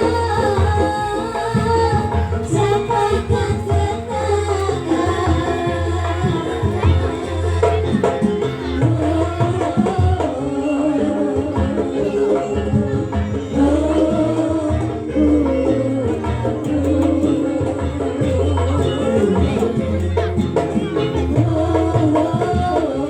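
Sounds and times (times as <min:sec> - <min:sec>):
hand drums playing: 0:00.0 - 0:23.0
person singing: 0:00.0 - 0:23.0.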